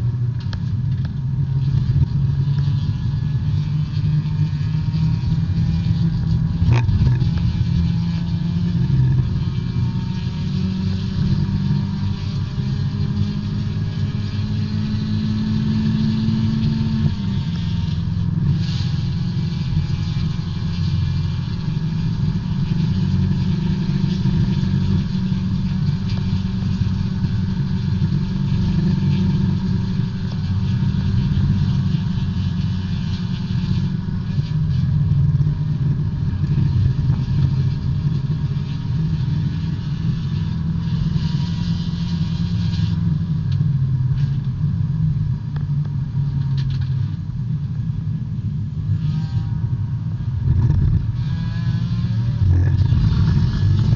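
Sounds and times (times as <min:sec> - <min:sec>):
race car engine under load: 0:00.0 - 0:53.9
road noise hiss: 0:00.0 - 0:53.9.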